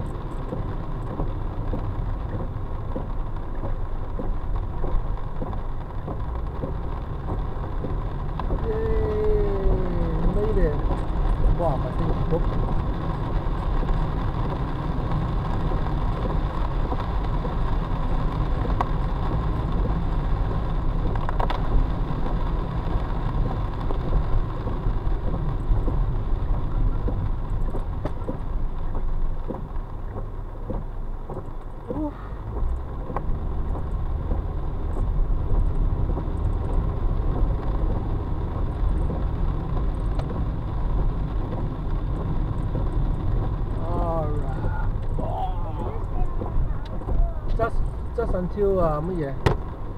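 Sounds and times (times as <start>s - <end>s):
tyre noise on wet road: 0.0s - 49.9s.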